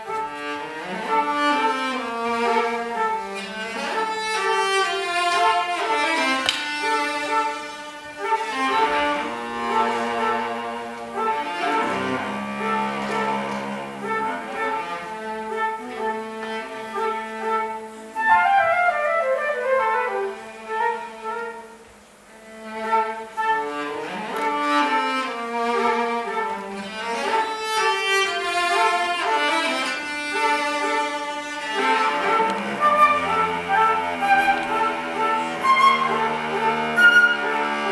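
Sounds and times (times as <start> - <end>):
flute and cello duet: 0.0 - 37.9.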